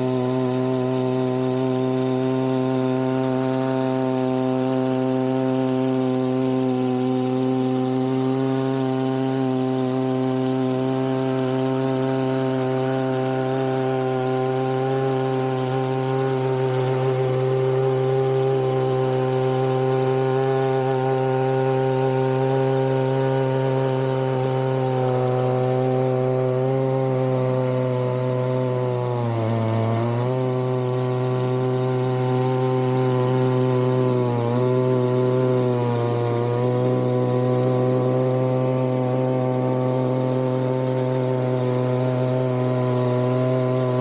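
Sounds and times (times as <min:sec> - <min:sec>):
chainsaw cutting through log: 0:00.0 - 0:44.0.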